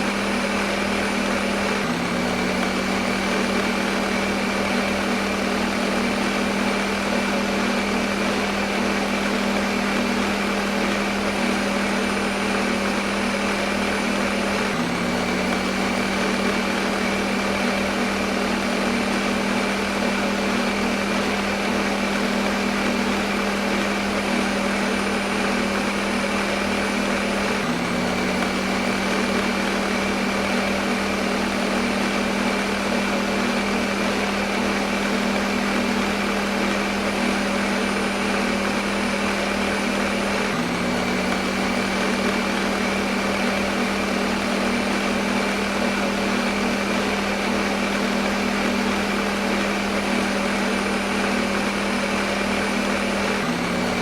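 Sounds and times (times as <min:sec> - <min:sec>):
blender motor whirring: 0:00.0 - 0:54.0.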